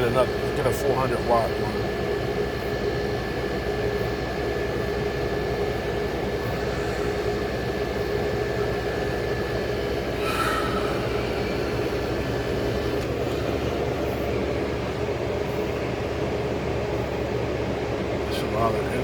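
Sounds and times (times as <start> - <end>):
window air conditioner running: 0.0 - 19.0.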